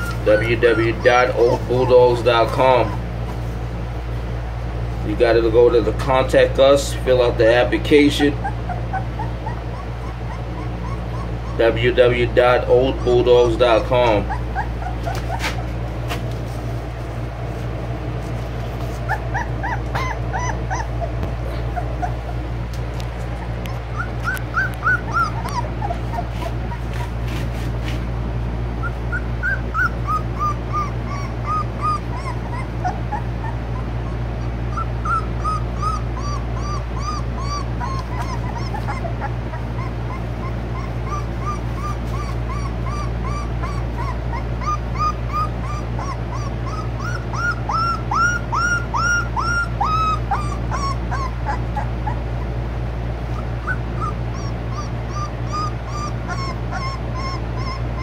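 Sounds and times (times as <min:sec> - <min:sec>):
puppies whimpering and yelping: 0:00.0 - 0:04.2, 0:05.3 - 0:58.0
steady low hum: 0:00.0 - 0:58.0.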